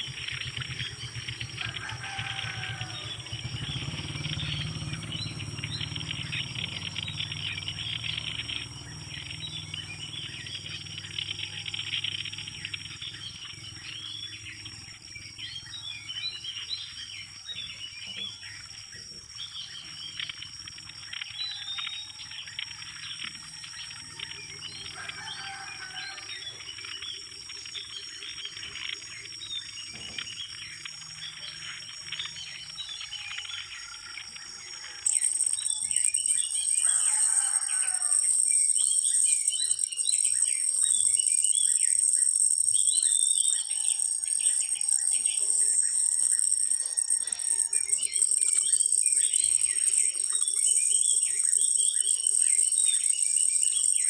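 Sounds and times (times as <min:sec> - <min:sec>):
high insect drone: 0:00.0 - 0:54.0
small birds chirping: 0:00.0 - 0:54.0.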